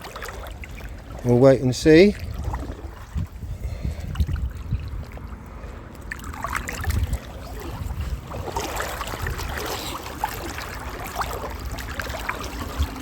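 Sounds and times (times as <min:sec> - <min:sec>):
legs splashing through water: 0:00.0 - 0:13.0.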